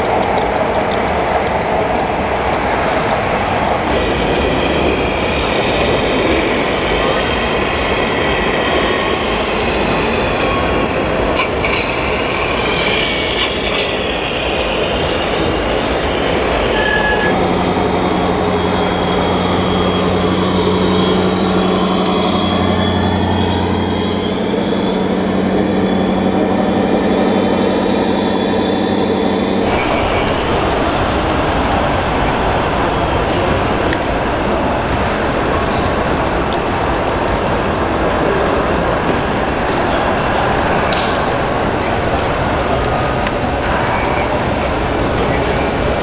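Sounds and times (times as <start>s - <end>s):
diesel-like engine sound hum: 0.0s - 46.0s.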